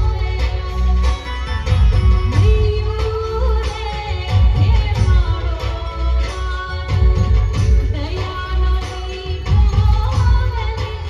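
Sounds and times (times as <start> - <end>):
heavy drum beat: 0.0 - 11.0.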